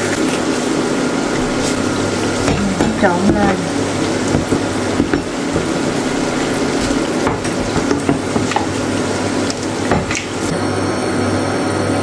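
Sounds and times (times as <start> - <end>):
ladle stirring batter: 0.0 - 10.5.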